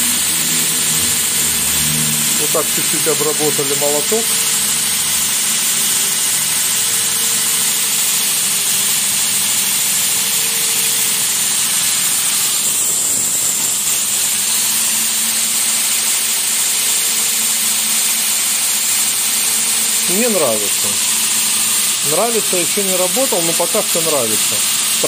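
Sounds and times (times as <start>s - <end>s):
abrasive belt running over wheels: 0.0s - 25.0s
belt grinder motor running: 0.0s - 25.0s.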